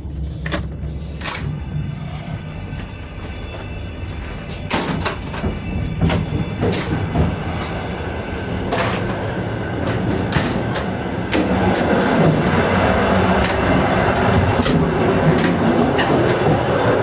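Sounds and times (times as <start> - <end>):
train low rumble: 0.0 - 17.0
wheels clattering: 0.1 - 17.0.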